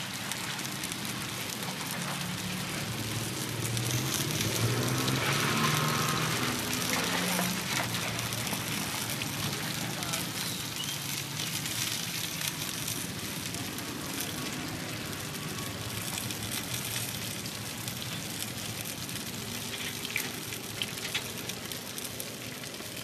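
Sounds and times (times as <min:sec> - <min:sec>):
cakes sizzling in hot oil: 0:00.0 - 0:23.0.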